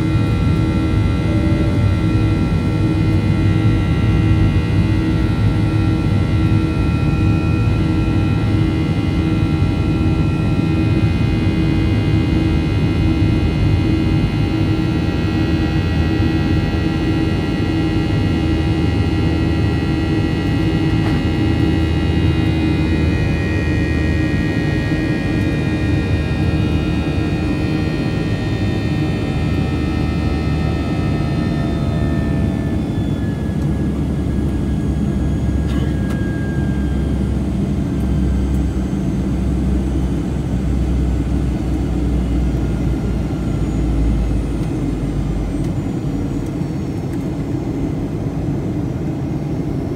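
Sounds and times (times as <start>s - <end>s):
jet engine and airflow rumble: 0.0s - 49.9s.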